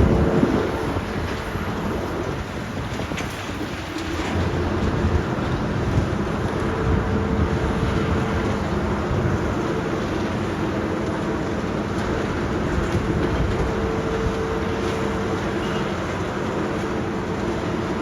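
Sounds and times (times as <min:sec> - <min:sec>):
diesel machinery engine running: 0:00.0 - 0:18.0.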